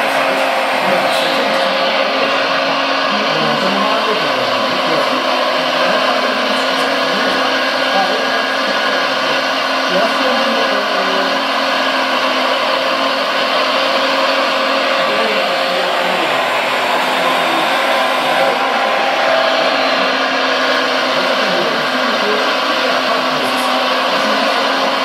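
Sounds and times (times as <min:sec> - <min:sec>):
toy excavator diesel engine drone: 0:00.0 - 0:25.0.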